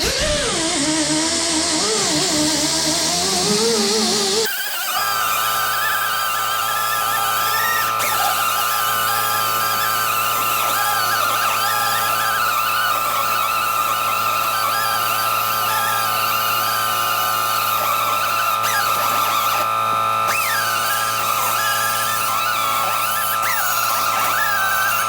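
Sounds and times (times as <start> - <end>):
pneumatic air sander on steel: 0.0 - 25.0.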